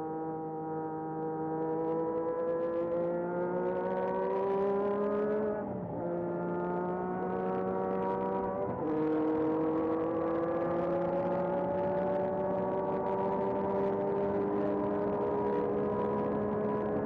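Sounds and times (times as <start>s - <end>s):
race car engine accelerating: 1.6s - 17.0s.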